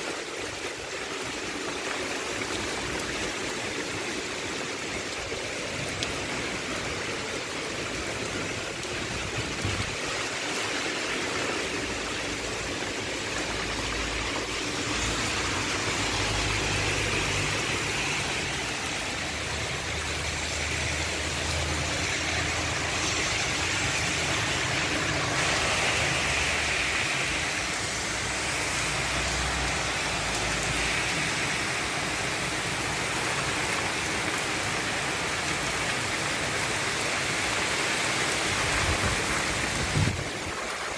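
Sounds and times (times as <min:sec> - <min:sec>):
heavy rain on wet pavement: 0:00.0 - 0:40.9.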